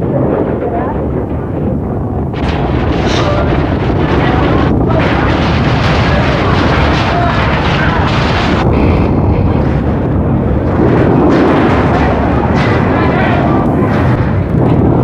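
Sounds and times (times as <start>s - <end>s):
earthquake rumbling and rattling: 0.0s - 15.0s.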